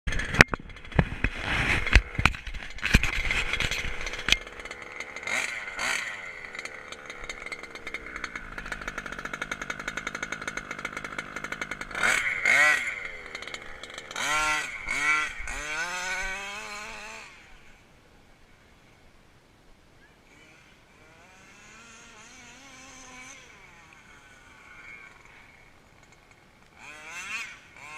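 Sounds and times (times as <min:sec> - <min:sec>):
two-stroke engine revving: 0:00.1 - 0:17.8, 0:20.3 - 0:27.9.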